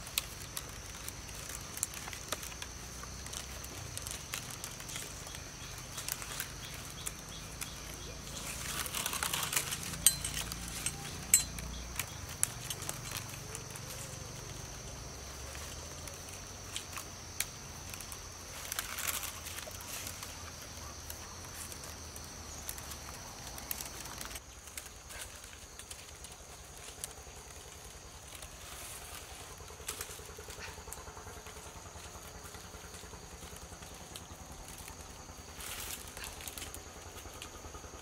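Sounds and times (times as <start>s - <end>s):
insect drone: 0.0s - 38.0s
vine strands rustling and clicking: 0.0s - 38.0s.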